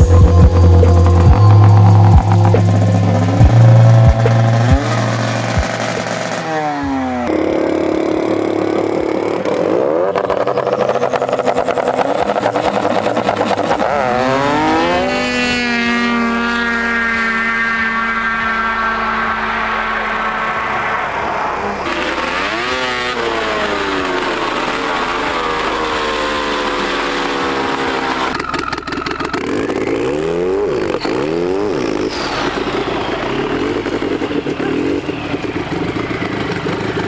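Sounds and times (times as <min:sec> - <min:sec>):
snowmobile engines revving: 0:00.0 - 0:37.0.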